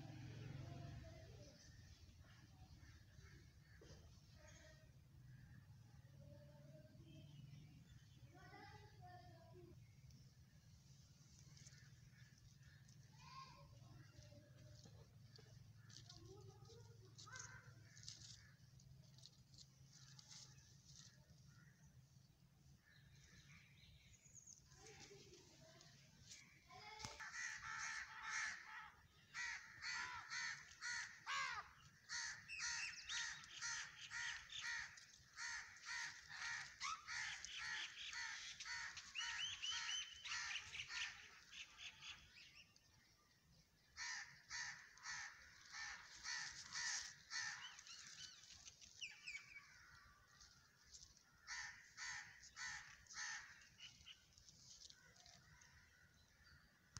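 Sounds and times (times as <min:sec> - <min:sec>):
birds calling: 0:10.1 - 0:56.9.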